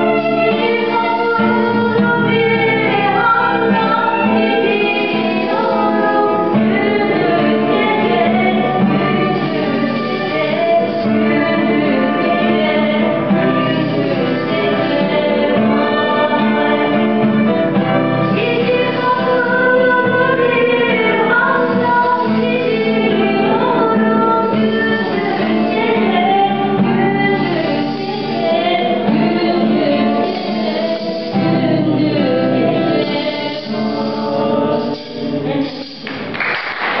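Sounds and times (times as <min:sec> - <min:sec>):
violin melody: 0:00.0 - 0:36.0
person singing folk song: 0:00.0 - 0:36.3
classical guitar: 0:00.0 - 0:37.0.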